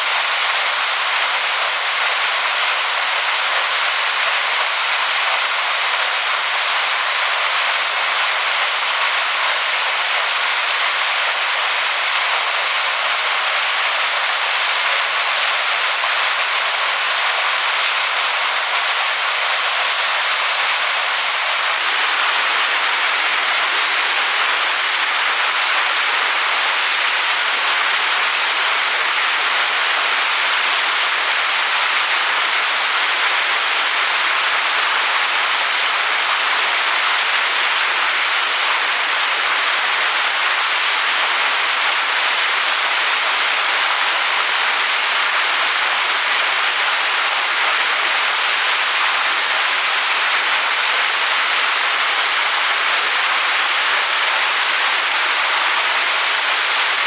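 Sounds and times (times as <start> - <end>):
waterfall splashing onto rocks: 0.0 - 57.0.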